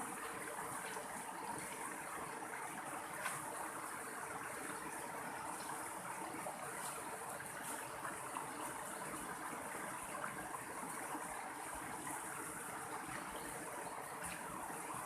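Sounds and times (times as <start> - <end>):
stream water flowing over rocks: 0.0 - 15.0.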